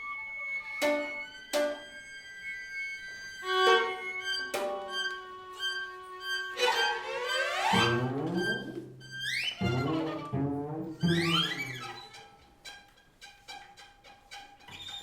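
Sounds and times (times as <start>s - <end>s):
string quartet playing: 0.0s - 15.0s.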